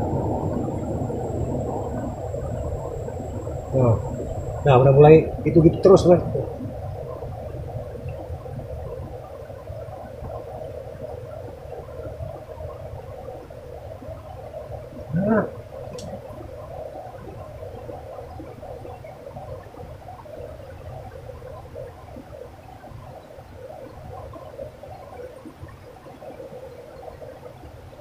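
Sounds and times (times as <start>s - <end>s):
river water over rocks: 0.0s - 28.0s.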